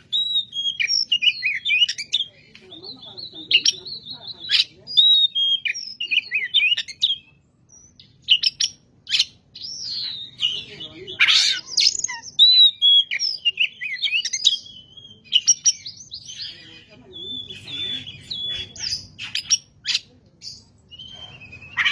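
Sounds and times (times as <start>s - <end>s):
bird singing whistled phrases: 0.0s - 21.9s.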